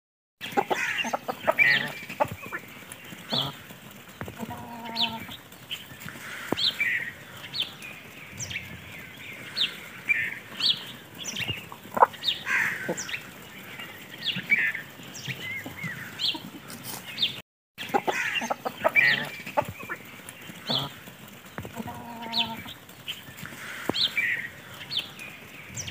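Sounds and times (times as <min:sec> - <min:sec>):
hens clucking: 0:00.4 - 0:25.9.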